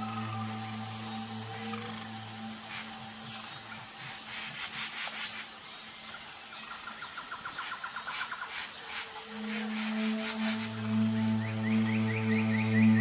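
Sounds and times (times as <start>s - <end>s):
low ambient music drone: 0.0s - 13.0s
rainforest hiss: 0.0s - 13.0s.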